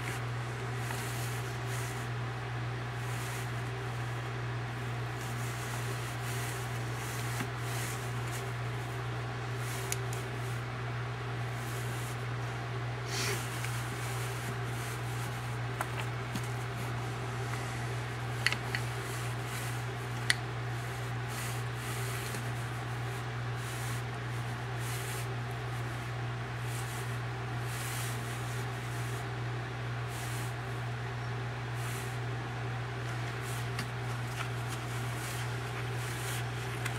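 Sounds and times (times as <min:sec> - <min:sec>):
low room hum: 0:00.0 - 0:36.9.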